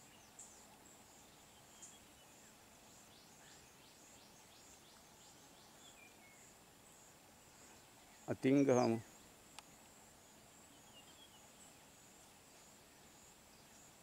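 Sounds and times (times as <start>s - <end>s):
high insect hum: 0.0s - 14.0s.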